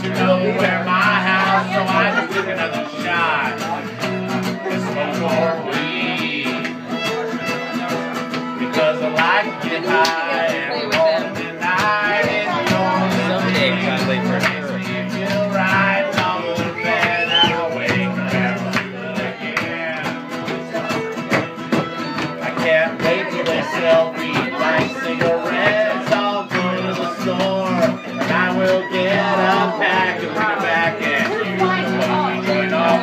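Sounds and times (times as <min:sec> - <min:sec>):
person singing: 0:00.0 - 0:33.0
strummed guitar: 0:00.0 - 0:33.0.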